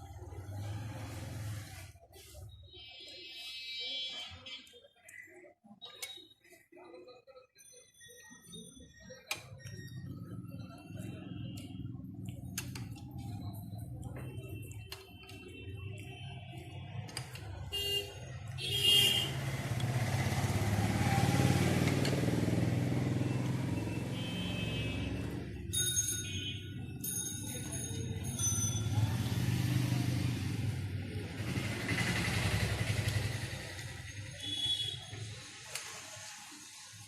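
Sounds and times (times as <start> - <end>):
motorbike engines passing: 0.0 - 2.5, 9.4 - 37.0.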